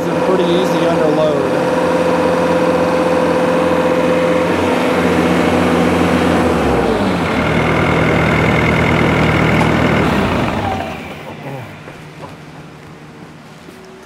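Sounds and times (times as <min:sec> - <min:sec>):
diesel skid steer engine running: 0:00.0 - 0:13.5.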